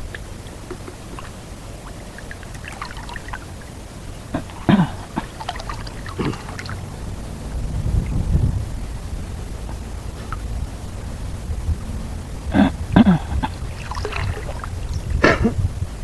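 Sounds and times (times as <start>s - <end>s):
low rumble: 0.0s - 16.0s
water splashing and trickling: 0.0s - 16.0s.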